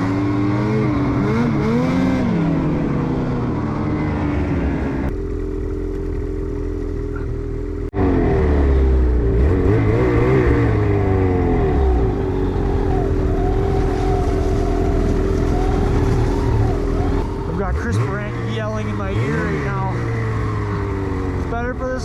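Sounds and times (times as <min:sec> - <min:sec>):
snowmobile engine revving: 0:00.0 - 0:05.2, 0:08.0 - 0:22.0.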